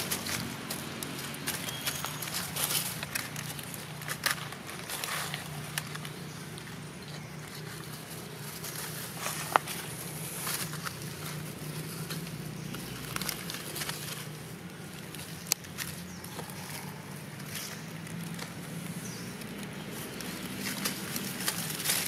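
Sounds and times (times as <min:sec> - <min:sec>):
dry leaves rustling and crackling: 0:00.0 - 0:22.0.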